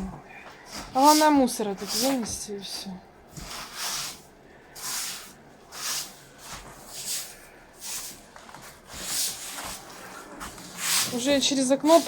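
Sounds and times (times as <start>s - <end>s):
rubble being swept by hand: 0.7s - 2.4s, 3.3s - 12.0s.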